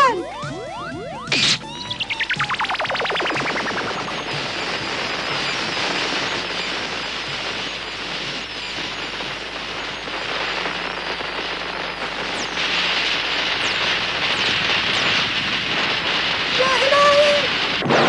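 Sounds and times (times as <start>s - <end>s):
gas burning with rushing hiss: 1.2s - 18.0s.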